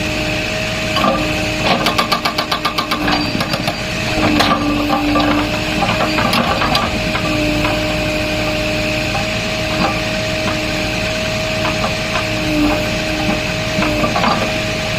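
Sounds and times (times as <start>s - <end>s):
excavator engine whining: 0.0s - 14.9s
metal knocks and clanks: 1.0s - 14.9s.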